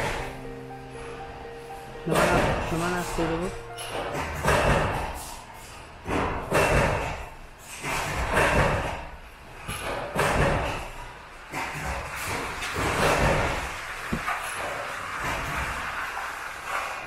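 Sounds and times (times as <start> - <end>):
heavy machine thuds: 2.1 - 15.8.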